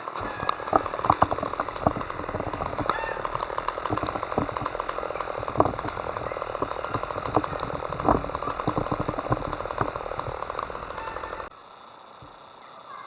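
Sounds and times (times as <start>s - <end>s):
campfire crackling and popping: 0.0s - 11.5s
high-pitched insect drone: 0.0s - 13.0s.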